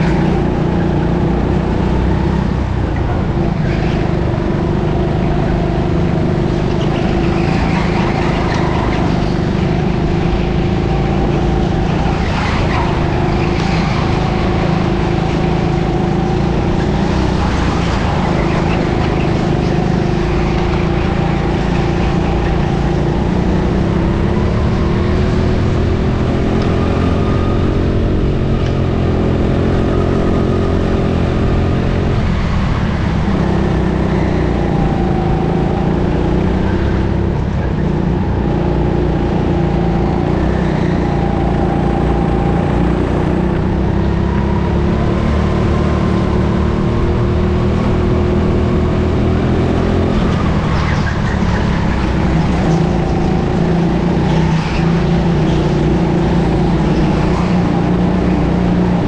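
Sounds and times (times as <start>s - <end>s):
go-kart engine running: 0.0s - 59.0s.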